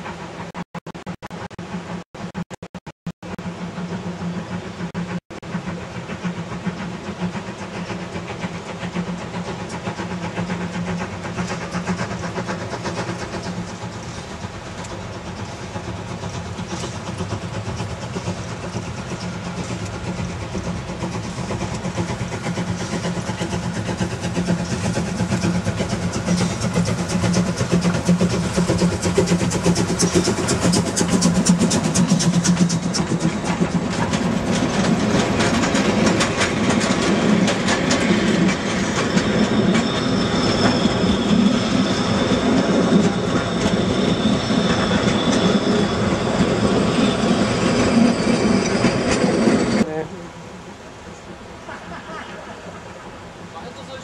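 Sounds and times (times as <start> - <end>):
steam locomotive hauling a train: 0.0 - 2.5, 3.2 - 54.0.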